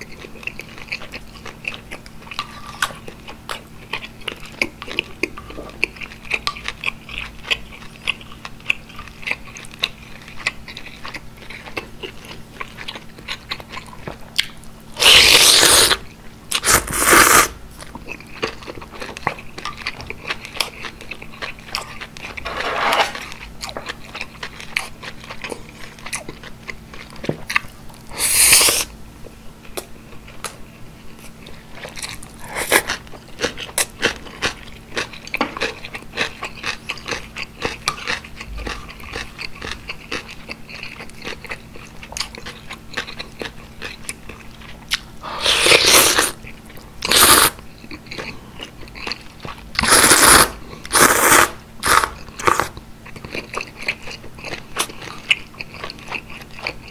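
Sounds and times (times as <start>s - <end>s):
close-miked chewing: 0.0s - 22.5s, 23.2s - 28.9s, 29.6s - 56.9s.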